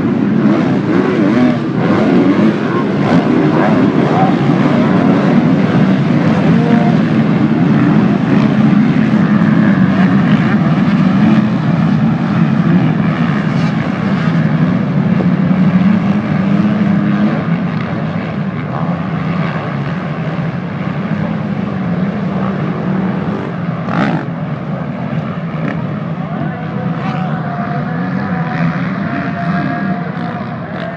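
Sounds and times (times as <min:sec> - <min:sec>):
motocross motorcycles racing: 0:00.0 - 0:30.9.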